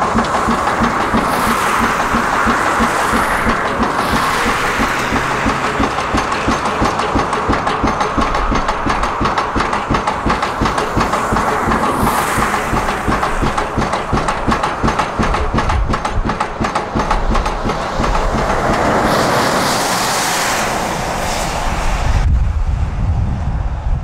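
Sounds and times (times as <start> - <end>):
rapid clicks: 0.0 - 19.4
excavator engine rumble: 0.0 - 22.5.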